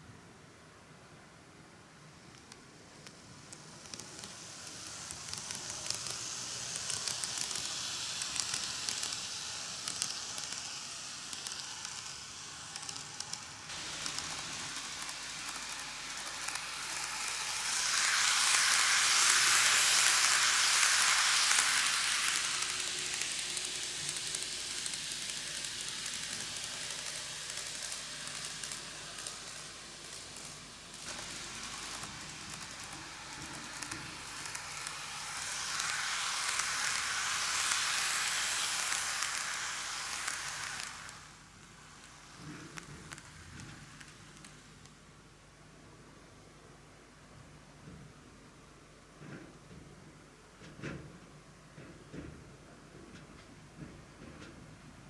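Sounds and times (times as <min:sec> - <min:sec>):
model train rolling on track: 0:00.7 - 0:47.4.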